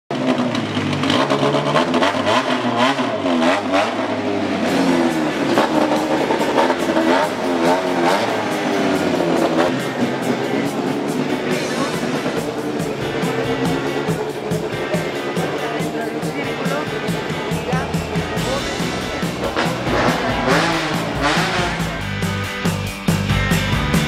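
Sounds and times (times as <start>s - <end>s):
rally car engines revving: 0.1s - 24.0s.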